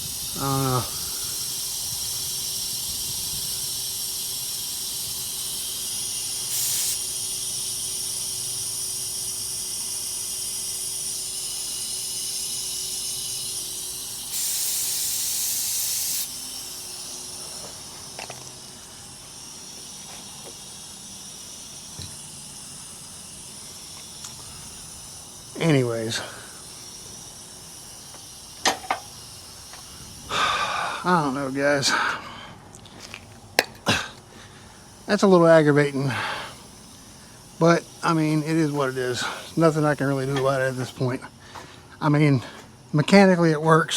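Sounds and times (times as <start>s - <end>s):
air blasts: 0.0s - 32.2s, 33.6s - 41.9s
compressed air hissing: 0.0s - 42.9s.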